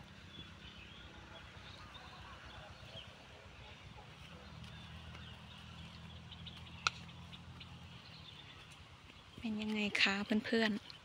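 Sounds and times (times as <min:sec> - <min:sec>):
low motor hum: 0:00.0 - 0:11.0
small birds chirping: 0:00.0 - 0:11.0.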